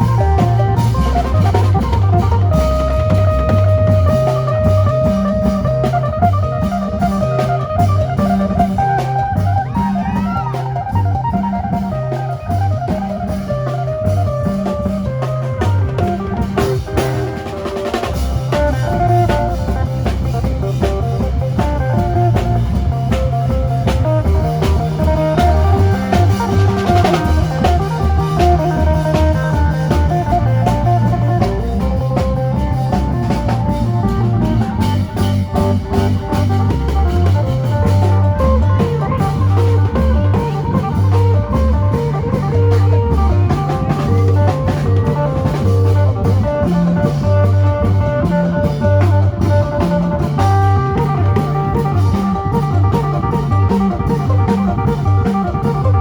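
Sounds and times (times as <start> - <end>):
drum kit beat: 0.0 - 56.0
repeating bass line: 0.0 - 56.0.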